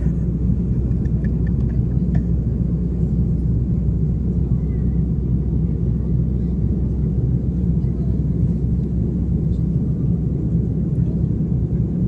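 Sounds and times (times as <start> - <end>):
jet engines and airflow rumble: 0.0 - 12.0.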